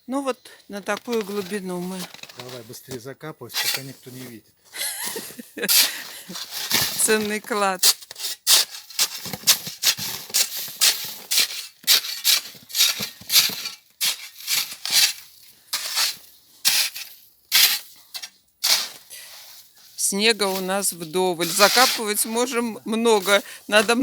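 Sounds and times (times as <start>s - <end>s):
shovel scraping snow: 0.9s - 24.0s.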